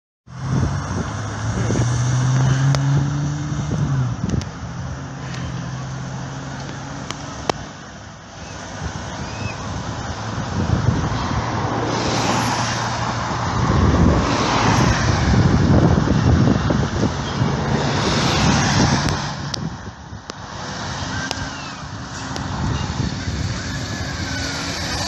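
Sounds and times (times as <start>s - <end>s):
bus engine humming: 0.3s - 25.0s
cars passing on road: 0.3s - 25.0s.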